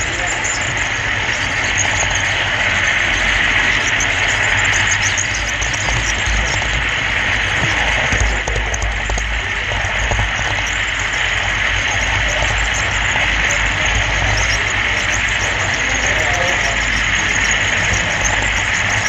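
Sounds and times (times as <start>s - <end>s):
model train wheels rolling: 0.0s - 19.0s.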